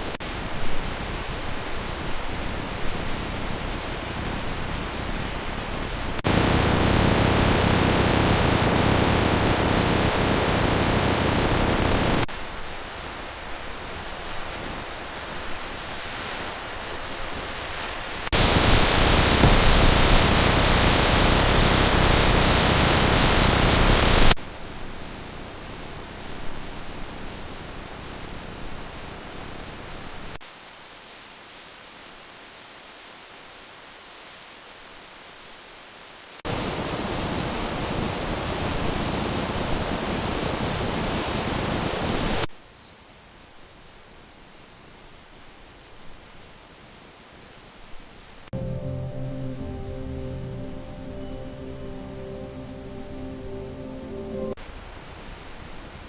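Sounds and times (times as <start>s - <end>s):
quiet even hiss: 0.0s - 6.5s, 11.8s - 41.7s, 42.4s - 56.0s
steady rain falling: 0.0s - 51.1s, 52.0s - 56.0s.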